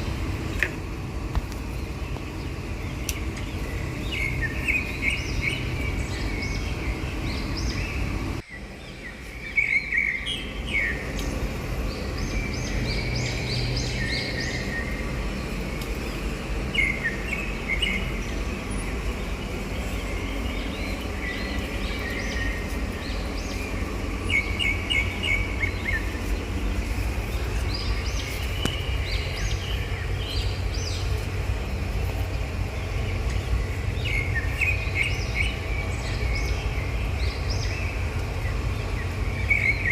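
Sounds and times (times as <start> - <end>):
low outdoor rumble: 0.0 - 39.9
small birds chirping: 0.0 - 39.9.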